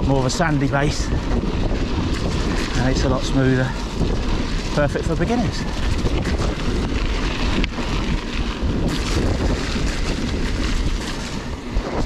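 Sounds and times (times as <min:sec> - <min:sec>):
bike tyres rolling on gravel: 0:00.0 - 0:12.0
wind buffeting microphone: 0:00.0 - 0:12.0.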